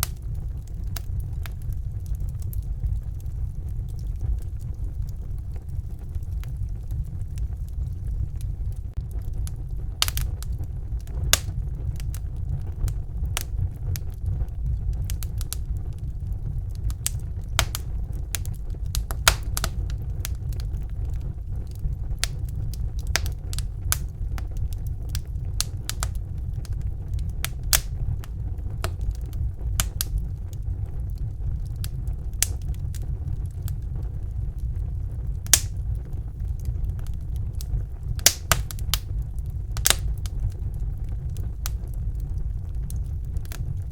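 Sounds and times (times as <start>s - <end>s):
fire flames rumbling: 0.0s - 43.9s
wood fire crackling and popping: 0.0s - 43.9s.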